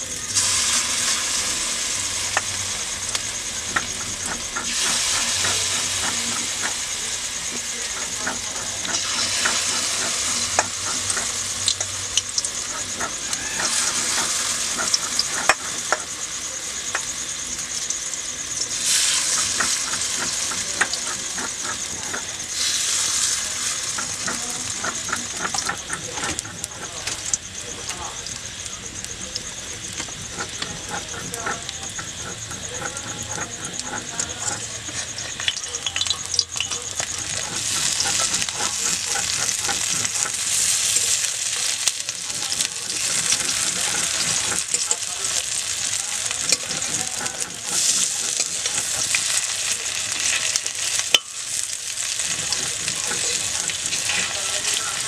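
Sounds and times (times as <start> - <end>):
deep-frying sizzle with crackling pops: 0.0 - 55.0.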